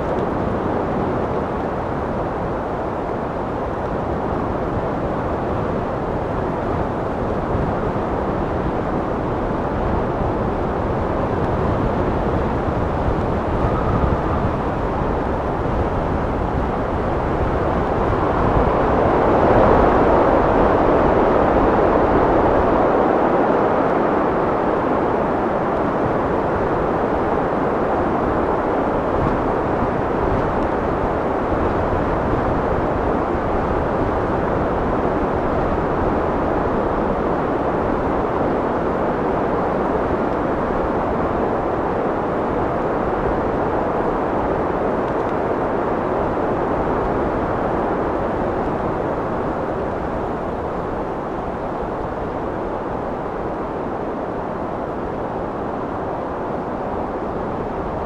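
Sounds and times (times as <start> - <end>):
wind blowing: 0.0 - 58.0.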